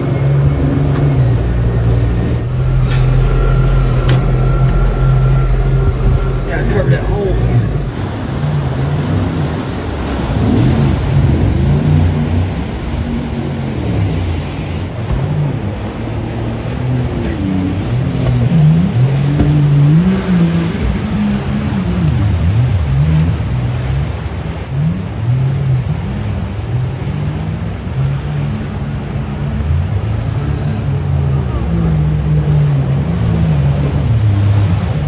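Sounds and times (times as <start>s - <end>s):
jet boat engine revving: 0.0s - 35.0s
rushing water: 0.0s - 35.0s.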